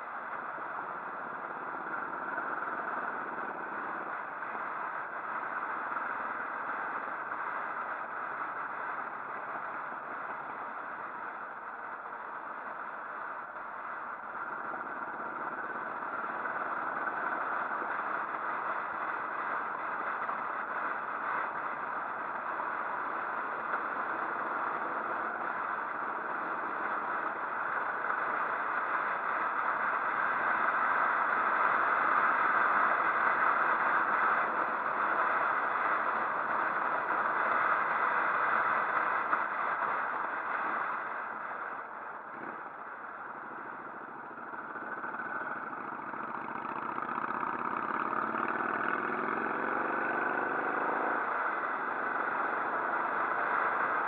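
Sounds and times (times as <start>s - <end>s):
wind and road noise: 0.0s - 54.0s
motorcycle engine: 0.2s - 54.0s.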